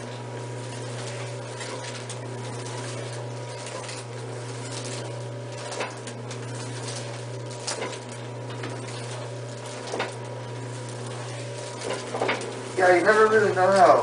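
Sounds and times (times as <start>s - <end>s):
machine electric hum: 0.0s - 14.0s.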